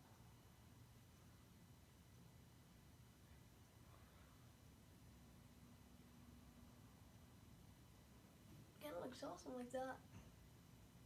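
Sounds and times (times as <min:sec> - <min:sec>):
ceiling fan hum: 0:00.0 - 0:11.0.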